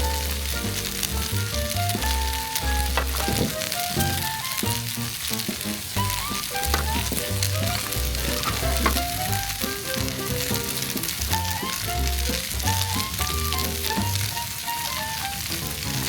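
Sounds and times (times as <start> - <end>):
background music: 0.0 - 16.0
food sizzling in pan: 0.0 - 16.0.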